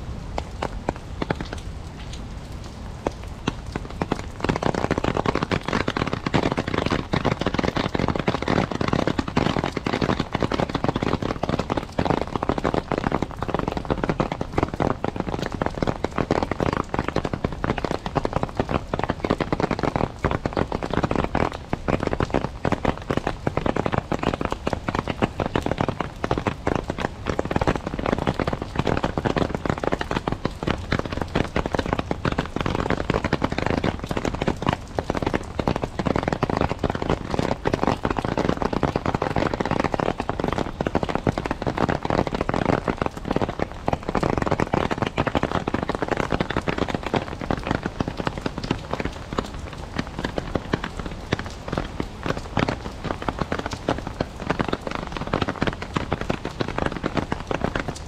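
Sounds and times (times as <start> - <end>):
rain on plastic umbrella: 0.0 - 58.0
rain on wet pavement: 0.0 - 58.0.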